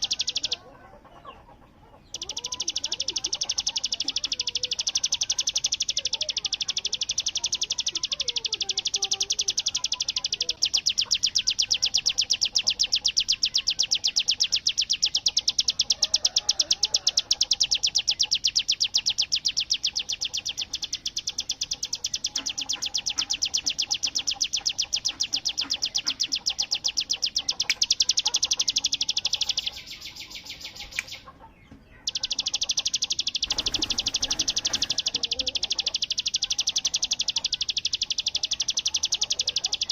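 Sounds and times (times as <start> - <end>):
bird rapid rattling song: 0.0 - 39.9.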